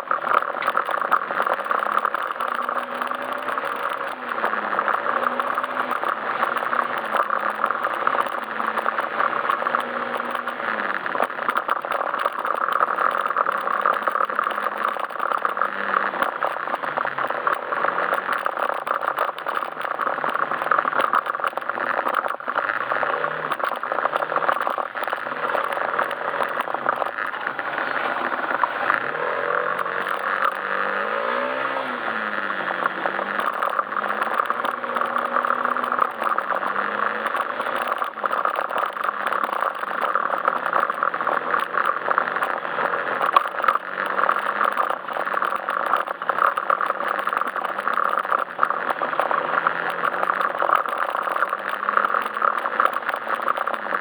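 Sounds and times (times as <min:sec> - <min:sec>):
scooter engine revving: 0:00.0 - 0:54.0
wind and road noise: 0:00.0 - 0:54.0.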